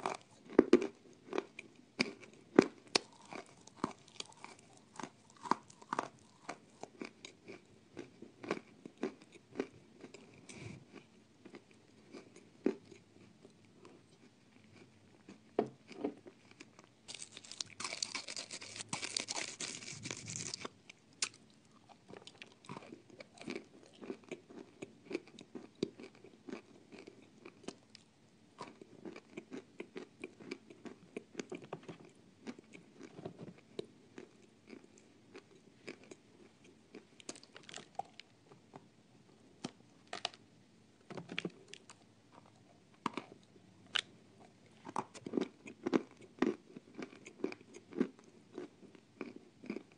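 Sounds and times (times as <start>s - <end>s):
person chewing crunchy food: 0.0s - 38.8s, 39.6s - 40.4s, 41.2s - 49.9s.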